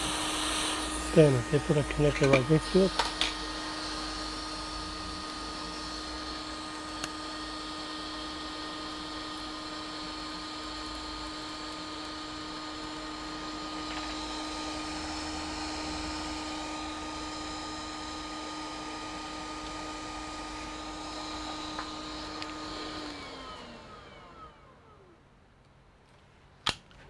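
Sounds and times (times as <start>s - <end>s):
hot air station blowing: 0.0s - 25.1s.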